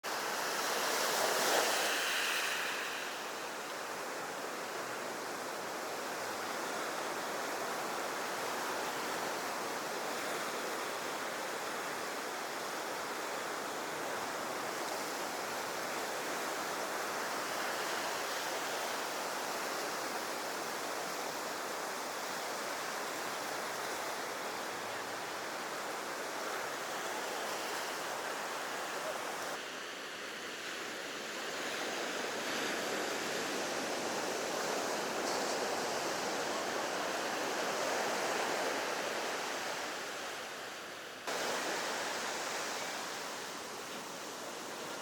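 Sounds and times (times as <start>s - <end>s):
ocean surf on a beach: 0.1s - 45.0s.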